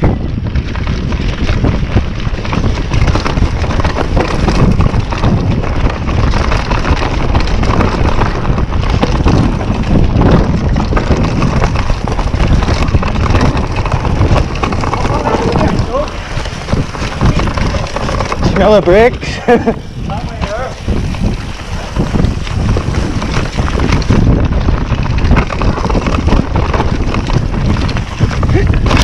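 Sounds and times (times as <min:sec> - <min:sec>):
bike rattles and knocks: 0:00.0 - 0:29.0
bike tyres on dirt: 0:00.0 - 0:29.0
wind buffeting microphone: 0:00.0 - 0:29.0.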